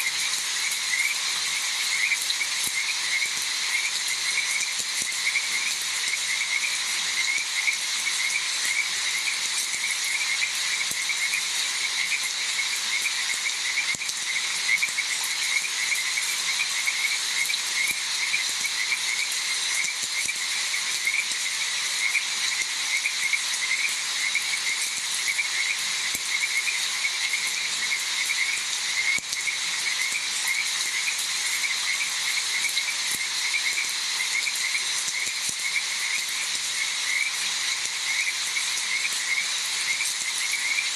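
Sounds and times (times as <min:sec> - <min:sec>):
frogs calling: 0:00.0 - 0:40.9
steady hiss: 0:00.0 - 0:40.9.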